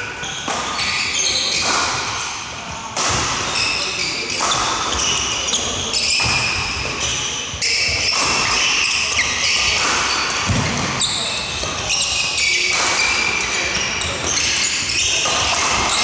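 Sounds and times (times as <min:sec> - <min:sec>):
shoe squeaks: 0:00.0 - 0:01.7, 0:03.4 - 0:16.0
rackets striking shuttlecock: 0:00.2 - 0:16.0.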